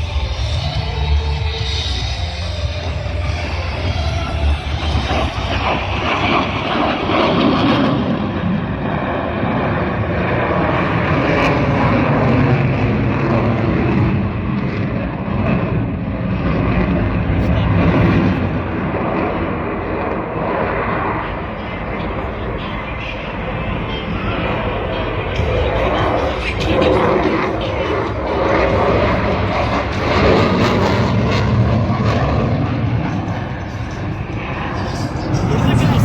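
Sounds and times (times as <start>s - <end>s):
jet engine roar: 0.0s - 36.0s.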